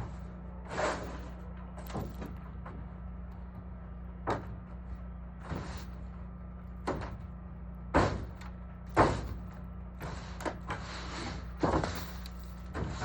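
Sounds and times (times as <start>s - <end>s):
scraping on a roof: 0.0s - 3.0s, 4.2s - 7.3s, 7.9s - 13.0s
low hum: 0.0s - 13.0s.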